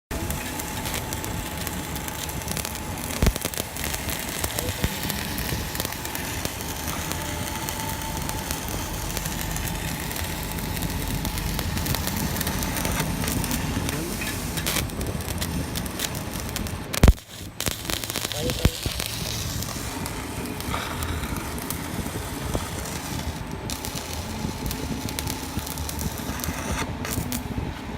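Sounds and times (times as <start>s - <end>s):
arc welding crackling: 0.0s - 27.9s
sharp welding crack: 0.1s - 27.6s.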